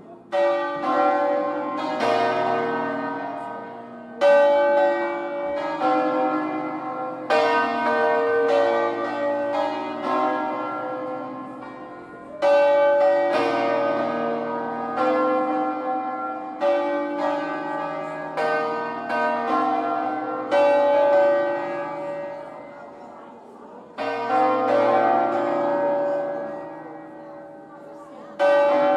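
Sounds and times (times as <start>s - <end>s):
church bells pealing: 0.0s - 28.9s.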